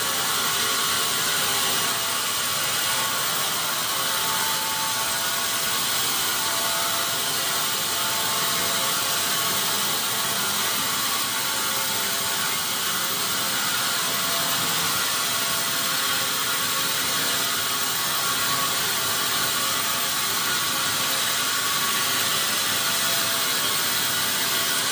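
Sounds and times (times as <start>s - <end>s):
sawmill machinery running: 0.0s - 24.9s.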